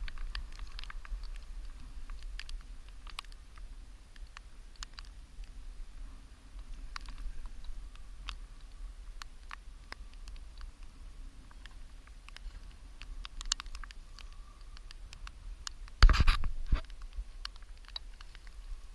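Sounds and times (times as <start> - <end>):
sharp clicks and ticks: 0.0 - 5.6, 6.6 - 18.8.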